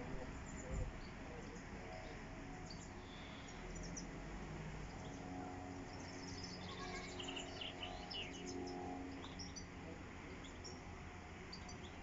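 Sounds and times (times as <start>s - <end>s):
small birds chirping: 0.0s - 4.2s, 4.8s - 12.0s
low background rumble: 0.0s - 12.0s.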